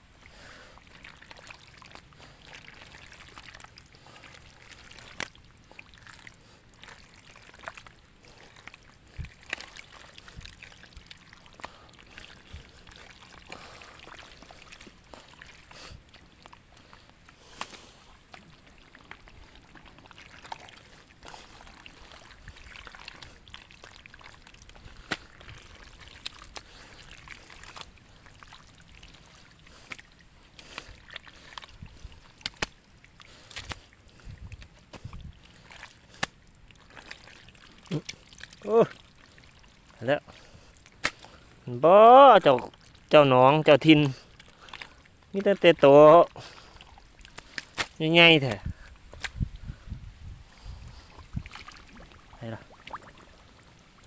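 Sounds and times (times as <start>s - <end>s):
shallow water splashing: 0.0s - 54.0s.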